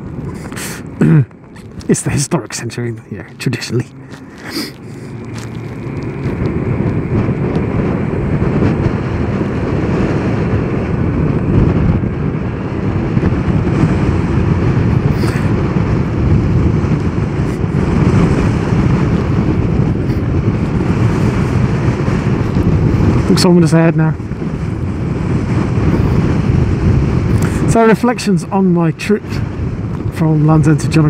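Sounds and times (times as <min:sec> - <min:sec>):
road and tyre noise: 0:00.0 - 0:31.0
wind rushing over microphone: 0:00.0 - 0:31.0.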